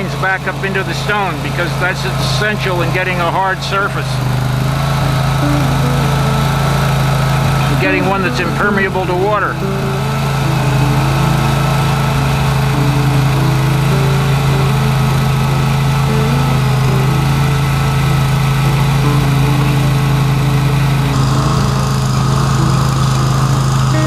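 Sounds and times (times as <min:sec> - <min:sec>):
rototiller engine running: 0:00.0 - 0:24.0.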